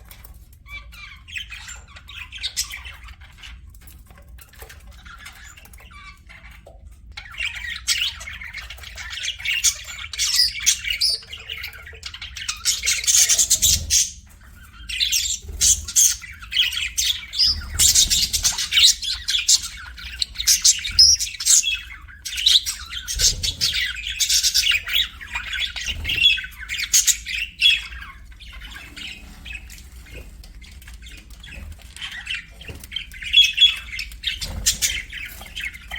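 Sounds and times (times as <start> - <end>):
budgerigars chattering and chirping: 0.0 - 35.9.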